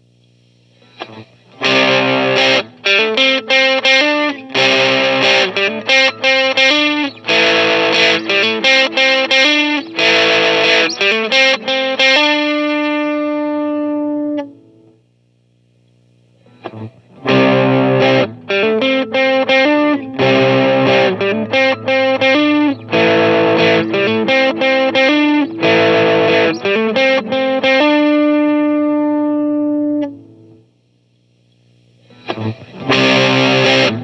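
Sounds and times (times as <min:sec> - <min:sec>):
overdriven electric guitar chords: 0:00.8 - 0:15.0, 0:16.4 - 0:30.7, 0:32.0 - 0:34.0.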